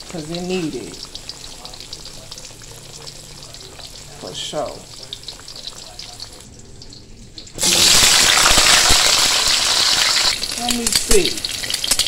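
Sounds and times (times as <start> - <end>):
hot oil sizzling in frying pans: 0.0 - 12.0.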